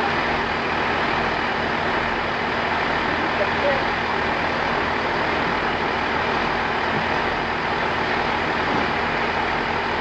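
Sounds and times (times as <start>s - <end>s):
diesel train rumbling: 0.0s - 10.0s.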